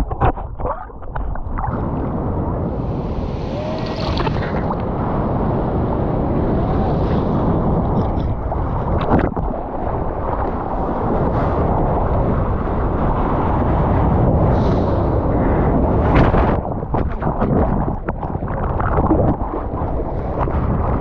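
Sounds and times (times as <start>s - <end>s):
seawater rushing and splashing: 0.0s - 21.0s.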